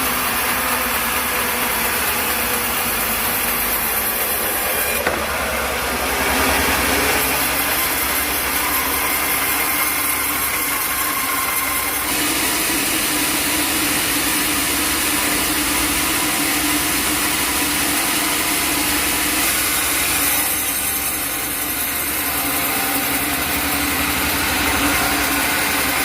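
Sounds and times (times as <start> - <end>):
engine-driven sawmill running: 0.0 - 26.0.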